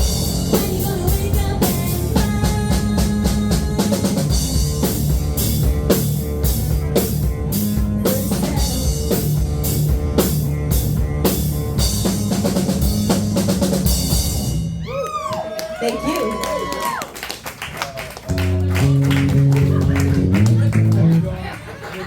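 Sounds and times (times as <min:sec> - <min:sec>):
live rock band playing: 0:00.0 - 0:15.1, 0:18.2 - 0:22.0.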